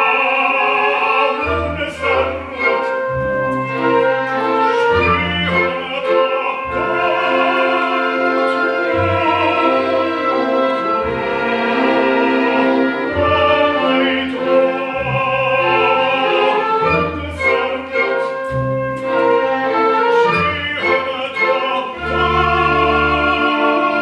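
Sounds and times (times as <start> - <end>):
operatic voices singing: 0.0 - 24.0
theatre orchestra playing: 0.0 - 24.0.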